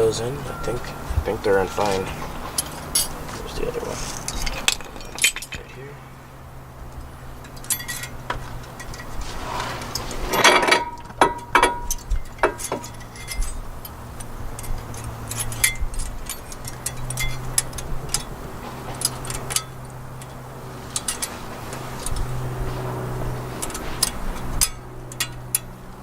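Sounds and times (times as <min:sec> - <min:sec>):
low hum: 0:00.0 - 0:26.0
metal clips clinking: 0:00.5 - 0:05.8, 0:06.9 - 0:09.2, 0:09.8 - 0:26.0.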